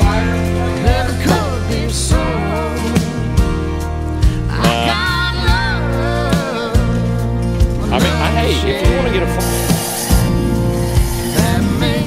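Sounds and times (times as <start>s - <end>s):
country song: 0.0s - 12.0s.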